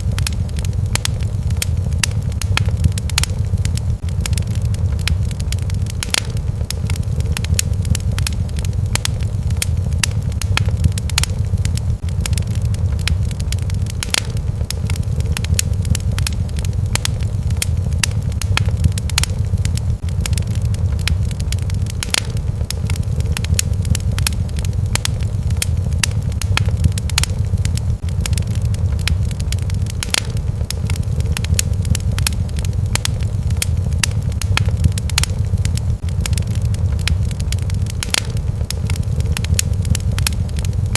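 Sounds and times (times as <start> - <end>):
fire popping and snapping: 0.0 - 40.9
low rumble of flames: 0.0 - 40.9.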